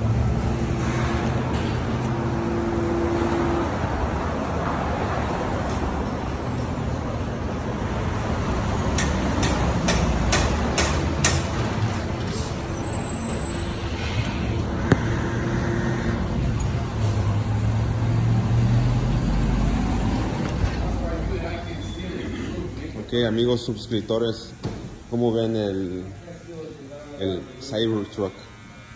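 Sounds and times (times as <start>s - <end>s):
traffic rumble: 0.0s - 25.5s.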